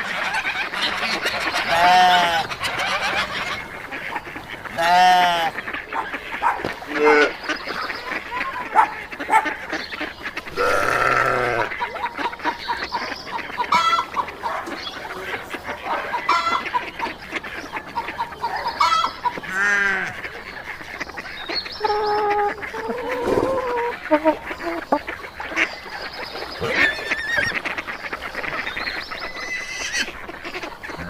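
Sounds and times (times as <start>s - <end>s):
poultry calling: 0.0s - 31.0s.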